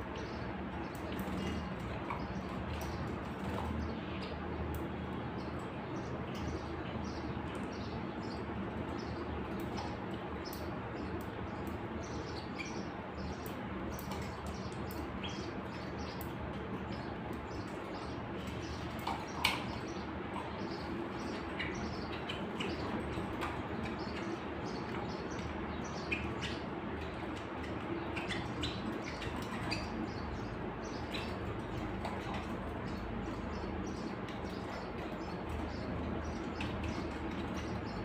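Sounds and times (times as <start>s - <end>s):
canaries chirping: 0.0s - 38.0s
steady background hum: 0.0s - 38.0s.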